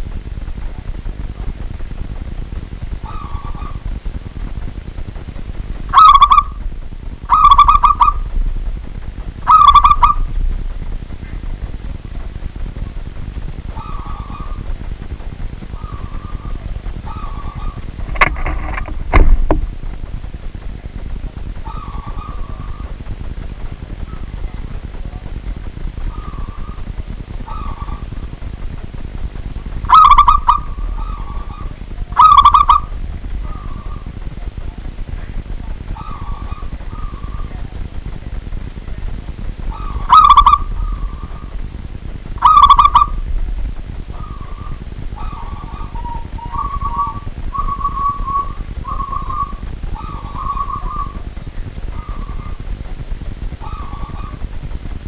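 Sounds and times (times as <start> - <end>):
dove cooing: 0.0 - 4.2, 5.5 - 19.4, 21.2 - 55.0
steady low rumble: 0.0 - 55.0.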